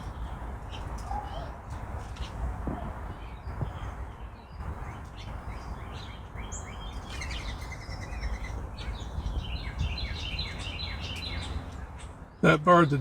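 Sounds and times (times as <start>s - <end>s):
low outdoor rumble: 0.0s - 13.0s
wren calling: 0.0s - 13.0s.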